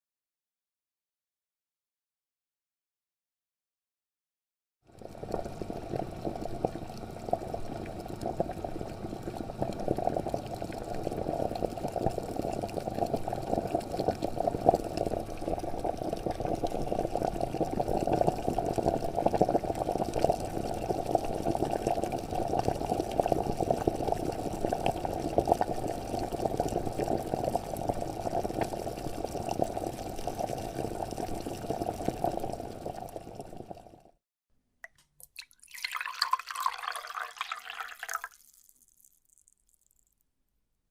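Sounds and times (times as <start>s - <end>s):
water boiling and bubbling: 4.9s - 34.2s, 35.2s - 39.9s.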